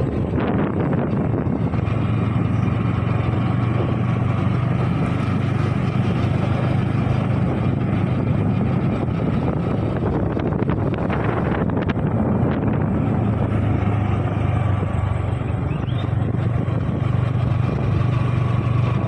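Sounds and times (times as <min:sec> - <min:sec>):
motorcycle engine humming: 0:00.0 - 0:19.0
rushing road noise: 0:00.0 - 0:19.0.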